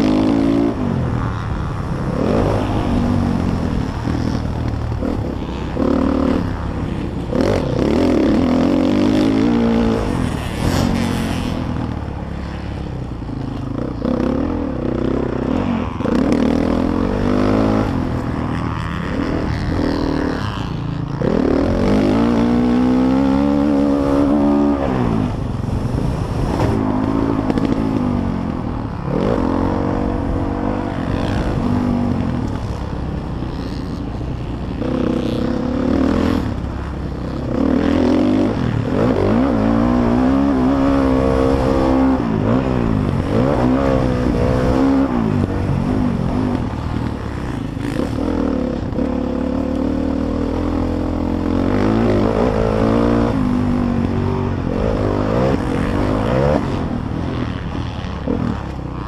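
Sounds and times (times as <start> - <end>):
motocross bike engine revving: 0.0 - 12.9, 13.5 - 59.0
wind rumble on camera: 0.0 - 59.0.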